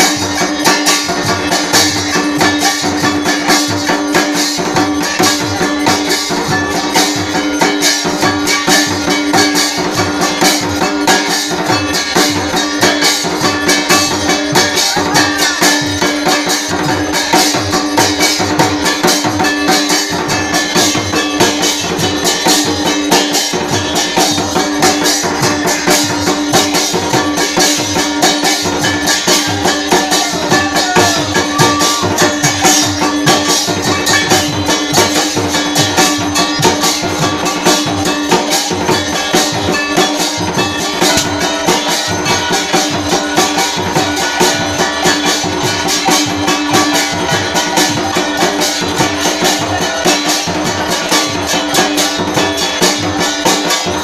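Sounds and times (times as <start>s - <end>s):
barrel drum beating: 0.0s - 54.0s
jingling metal percussion: 0.0s - 54.0s.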